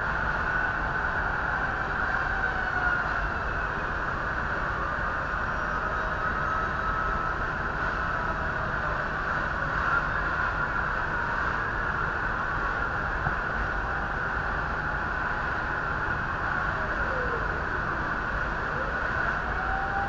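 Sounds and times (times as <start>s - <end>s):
fire engines and fire din: 0.0s - 20.0s.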